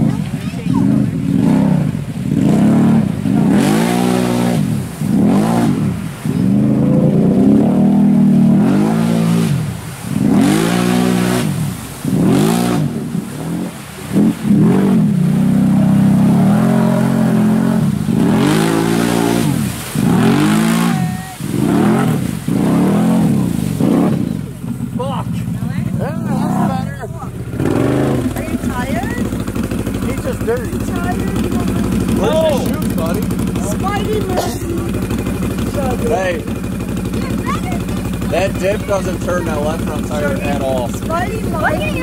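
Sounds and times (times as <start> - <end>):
atv engine revving: 0.0 - 42.0.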